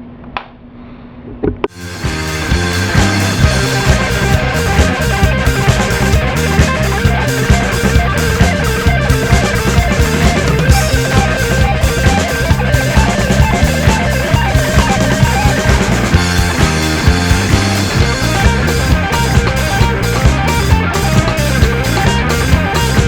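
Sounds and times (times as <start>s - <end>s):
rock music: 1.7s - 23.0s.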